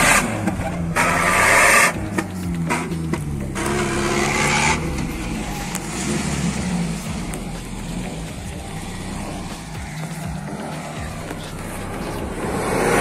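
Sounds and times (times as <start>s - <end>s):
off-road vehicle engine pulling hard: 0.0s - 13.0s.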